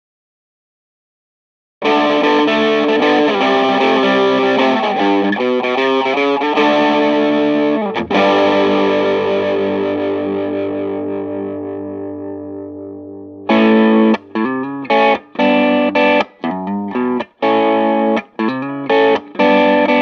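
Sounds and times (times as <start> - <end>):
overdriven electric guitar chords: 1.8 - 20.0.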